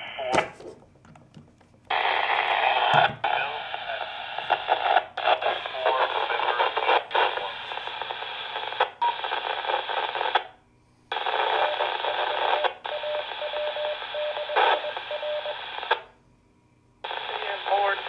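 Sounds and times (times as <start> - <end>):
radio static hiss: 0.0 - 0.8, 1.9 - 10.5, 11.1 - 16.1, 17.0 - 18.0.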